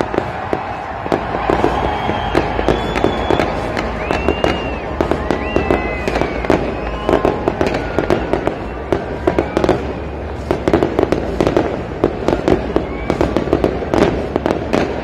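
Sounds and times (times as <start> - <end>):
fireworks bangs and crackling: 0.0 - 15.0
fireworks rising whistles: 0.0 - 15.0.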